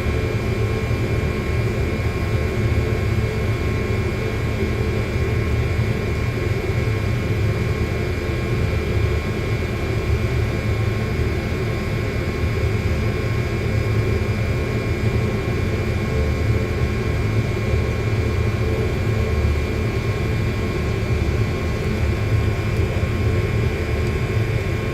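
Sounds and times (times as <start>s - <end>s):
machine drone low rumble: 0.0s - 24.9s.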